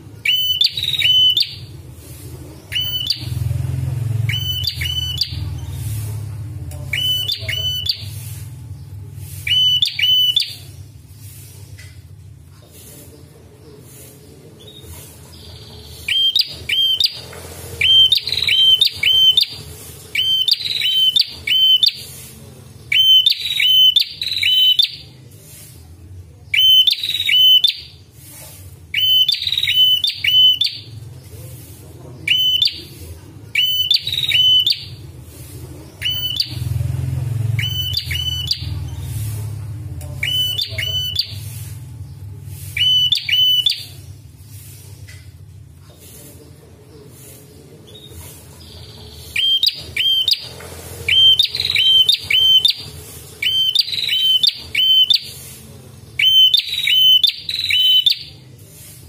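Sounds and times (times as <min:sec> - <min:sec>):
bird chirping: 0:00.2 - 0:12.0, 0:12.6 - 0:25.2, 0:26.5 - 0:28.0, 0:28.9 - 0:45.3, 0:46.0 - 0:58.4.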